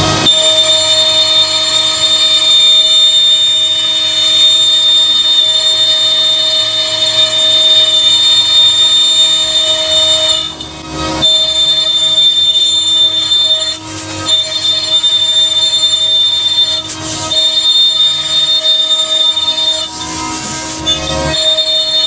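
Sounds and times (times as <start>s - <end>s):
router spindle high-pitched whine: 0.0s - 22.0s.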